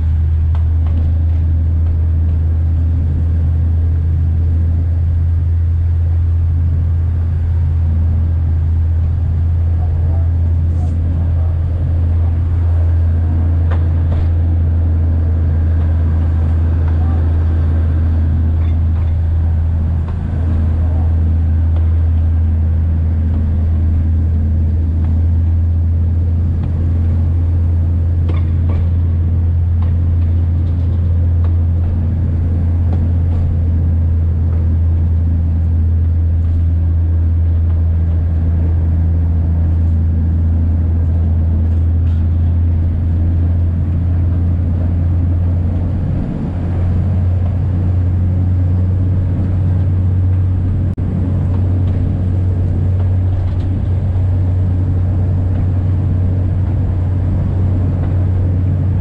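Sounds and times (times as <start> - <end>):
diesel train engine drone: 0.0 - 59.0.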